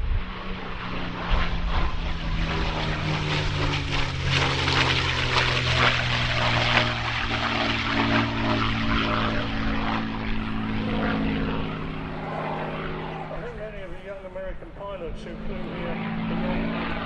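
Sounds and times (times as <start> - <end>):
propeller aircraft flying past: 0.0 - 17.0.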